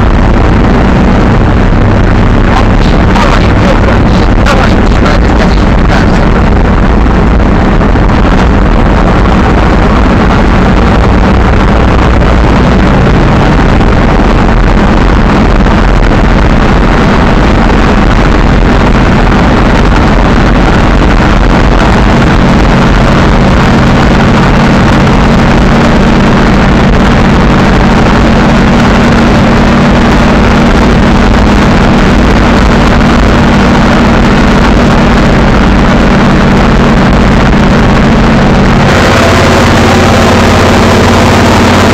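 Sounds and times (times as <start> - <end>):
truck engine running inside cab: 0.0 - 41.9.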